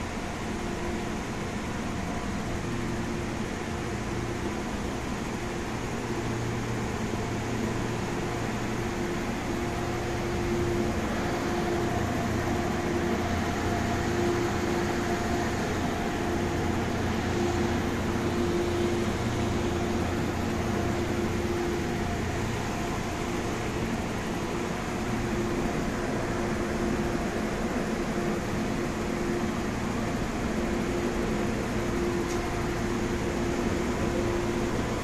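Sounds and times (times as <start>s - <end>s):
electric train humming: 0.0s - 35.0s.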